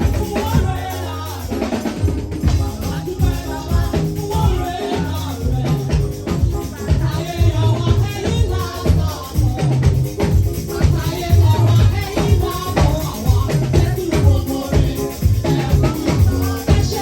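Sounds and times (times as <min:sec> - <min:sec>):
drum beat: 0:00.0 - 0:17.0
person singing: 0:00.0 - 0:17.0
shaker: 0:00.0 - 0:17.0.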